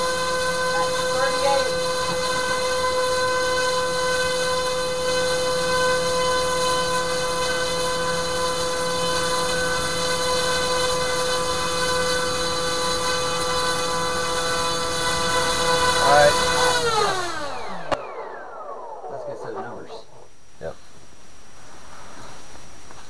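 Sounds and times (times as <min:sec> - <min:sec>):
electric motor propeller whine: 0:00.0 - 0:20.3.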